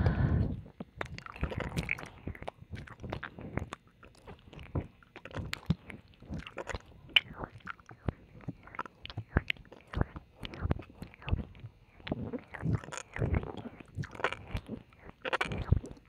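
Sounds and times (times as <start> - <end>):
wet mouth clicks and smacking: 0.5 - 16.0.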